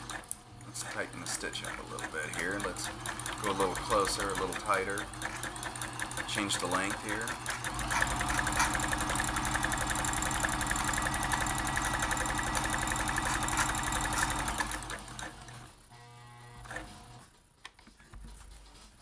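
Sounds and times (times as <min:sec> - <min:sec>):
sewing machine stitching: 0:00.0 - 0:17.2.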